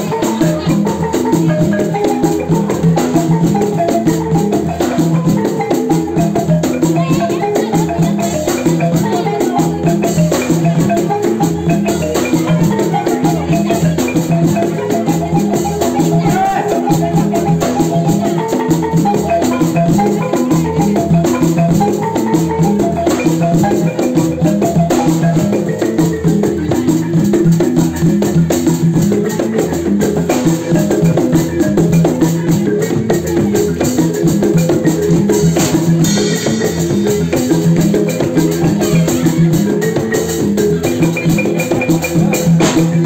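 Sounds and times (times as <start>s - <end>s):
live band playing: 0.0s - 43.0s.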